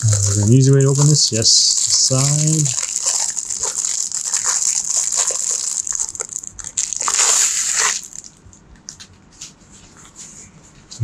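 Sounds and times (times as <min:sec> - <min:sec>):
plastic shrink-wrap crinkling: 0:00.0 - 0:09.0.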